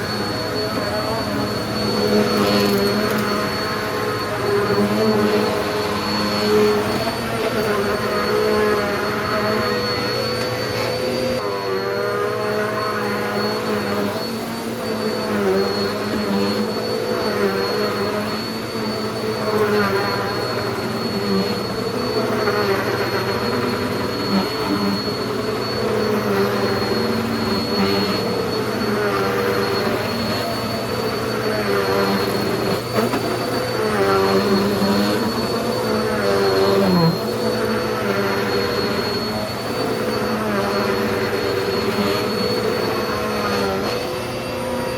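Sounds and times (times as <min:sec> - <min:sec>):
vacuum cleaner running on rug: 0:00.0 - 0:44.9.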